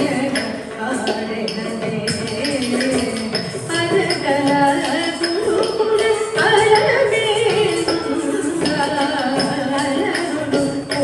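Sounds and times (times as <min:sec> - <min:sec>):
percussion strokes: 0:00.0 - 0:11.0.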